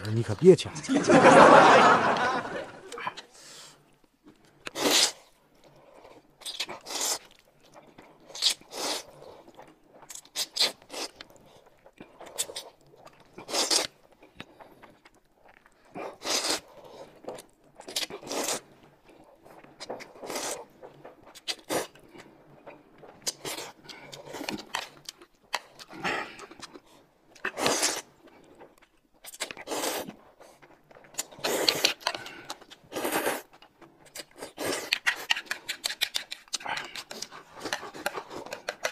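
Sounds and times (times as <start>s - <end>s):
chewing: 2.1s - 38.9s
noodles being slurped: 4.4s - 38.9s.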